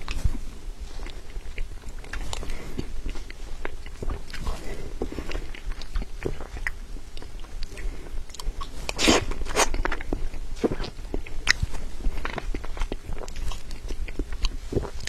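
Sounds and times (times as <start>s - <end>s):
wet chewing smacks: 0.0s - 15.0s.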